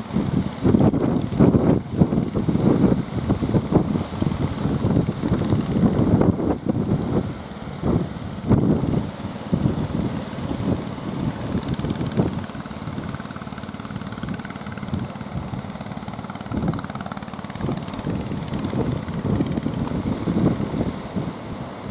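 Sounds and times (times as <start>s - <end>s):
boat engine running: 0.0s - 21.9s
wind buffeting microphone: 0.0s - 21.9s.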